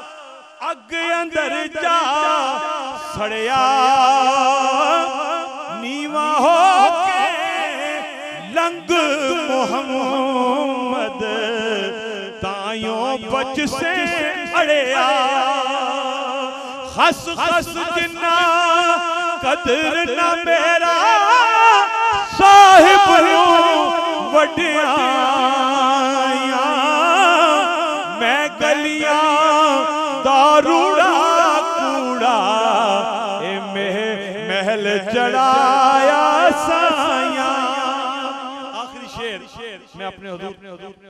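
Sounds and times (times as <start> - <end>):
man singing into microphone: 0.0 - 41.0.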